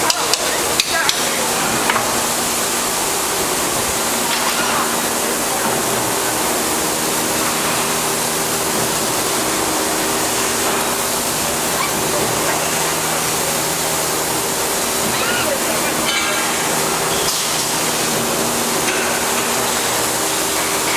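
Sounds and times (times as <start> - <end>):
machine hum: 0.0 - 20.9
welding arc hissing: 0.0 - 20.9.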